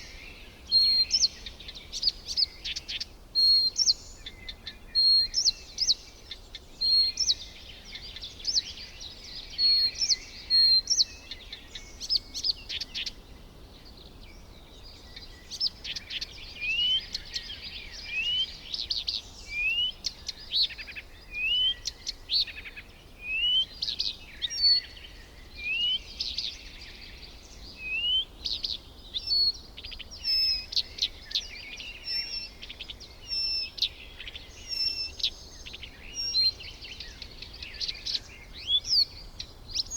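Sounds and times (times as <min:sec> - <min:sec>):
birds chirping: 0:06.8 - 0:39.9.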